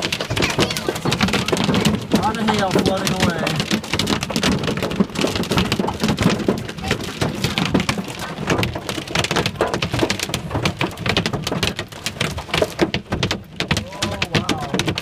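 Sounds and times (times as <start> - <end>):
rain and hail on car roof: 0.0 - 15.0.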